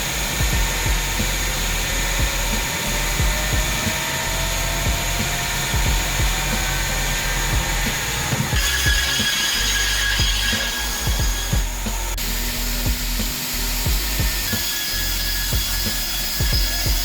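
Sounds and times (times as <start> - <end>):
band saw running with high whine: 0.0 - 17.0.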